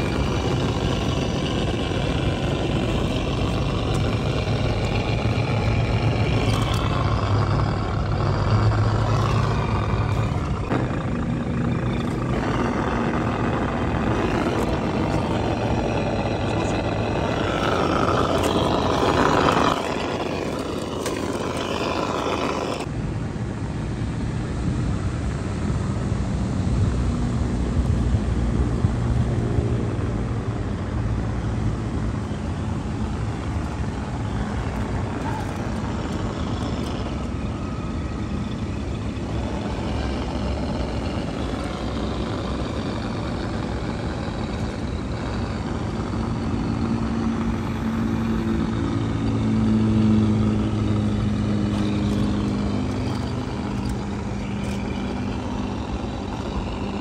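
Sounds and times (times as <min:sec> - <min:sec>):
electric motor whine of toy trucks: 0:00.0 - 0:22.9, 0:31.5 - 0:57.0.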